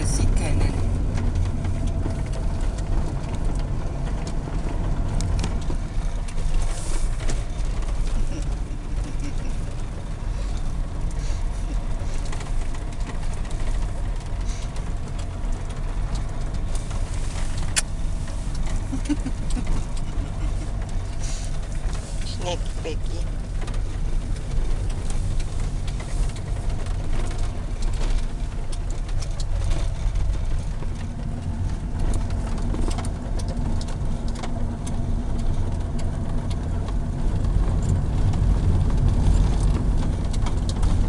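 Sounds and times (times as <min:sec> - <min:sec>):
engine and tyre rumble: 0:00.0 - 0:41.0.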